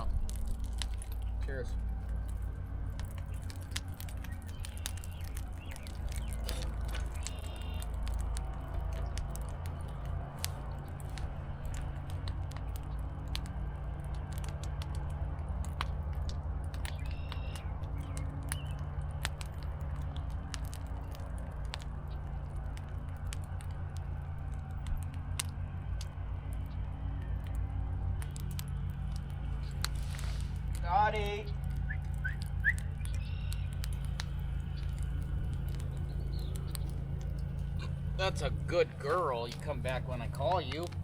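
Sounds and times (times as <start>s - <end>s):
campfire crackling and popping: 0.0s - 41.0s
steady low hum: 0.0s - 41.0s.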